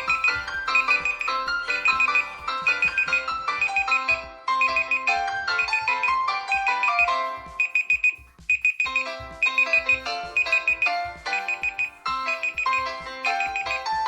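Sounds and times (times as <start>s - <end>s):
smartphone alarm ringtone: 0.0s - 14.0s.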